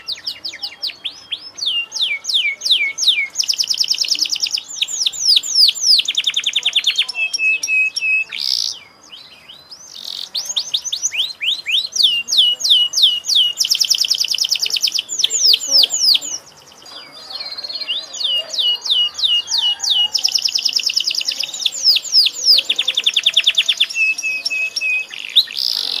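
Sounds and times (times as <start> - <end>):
canary singing: 0.0 - 26.0.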